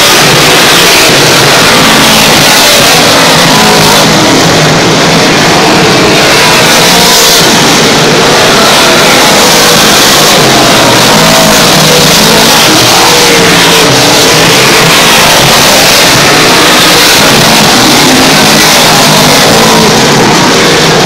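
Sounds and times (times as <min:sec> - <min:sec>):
race car engines at full throttle: 0:00.0 - 0:21.0.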